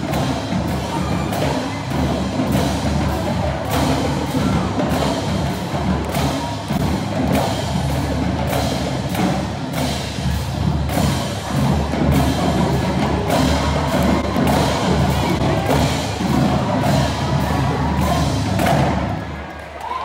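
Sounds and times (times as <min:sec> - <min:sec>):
bass drum beats: 0:00.0 - 0:19.3
snare drums: 0:00.0 - 0:20.0.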